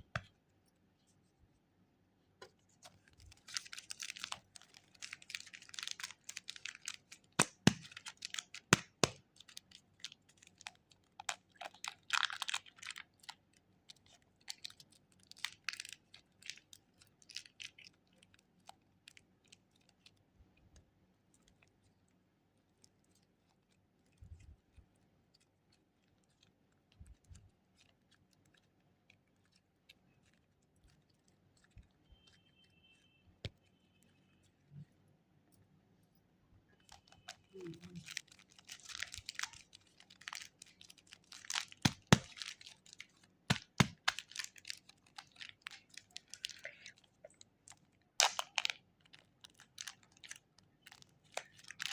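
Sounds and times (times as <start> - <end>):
plastic wrappers crinkling: 2.5 - 34.9, 36.7 - 51.9.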